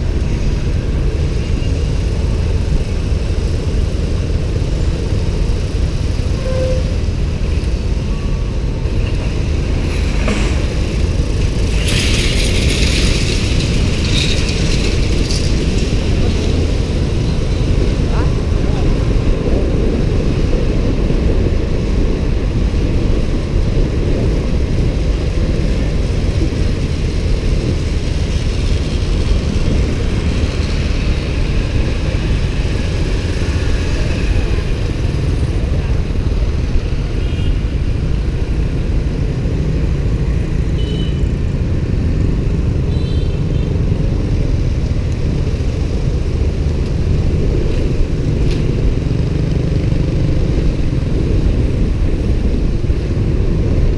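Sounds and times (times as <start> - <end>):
road noise: 0.0 - 53.9.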